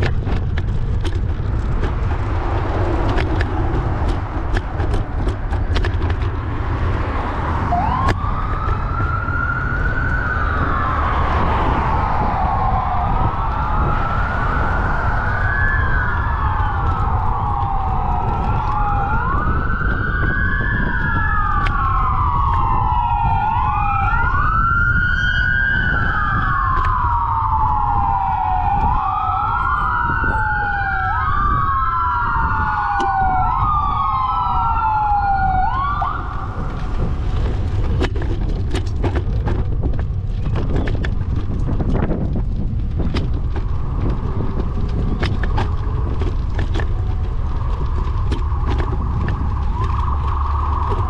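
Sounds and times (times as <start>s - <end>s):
emergency siren wailing: 0.0s - 51.0s
wind rumble on microphone: 0.0s - 51.0s.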